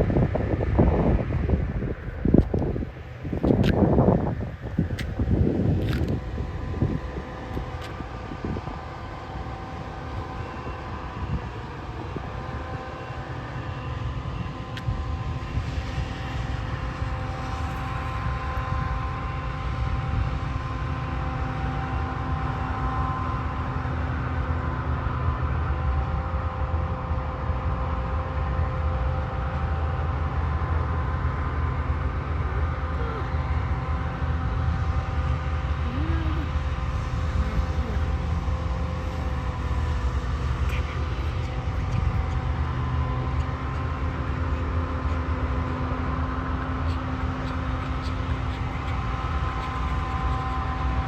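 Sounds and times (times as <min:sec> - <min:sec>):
combine harvester engine drone: 0:00.0 - 0:51.0.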